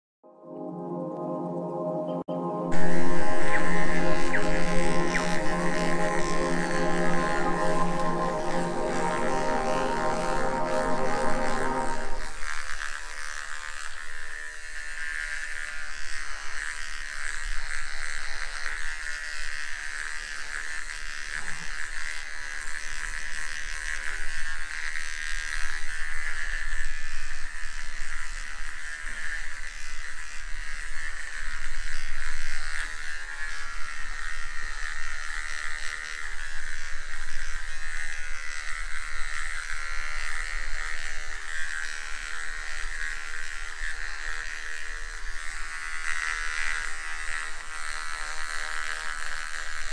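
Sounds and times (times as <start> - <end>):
electric hair clipper buzzing: 2.3 - 49.9.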